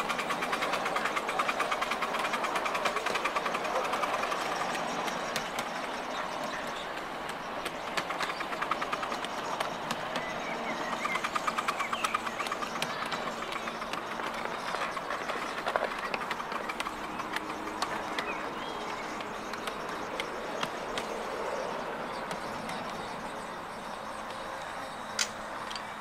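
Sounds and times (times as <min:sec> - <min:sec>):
miniature train running noise: 0:00.0 - 0:26.0
wheels clicking over rails: 0:00.0 - 0:26.0.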